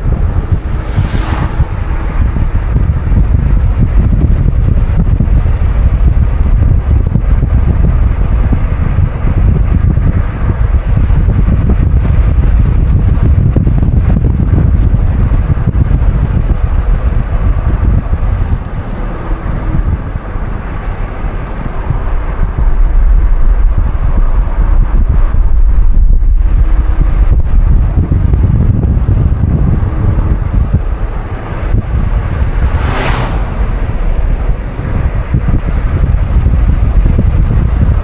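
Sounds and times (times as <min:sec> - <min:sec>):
car road noise: 0:00.0 - 0:38.0
wind buffeting microphone: 0:00.0 - 0:38.0.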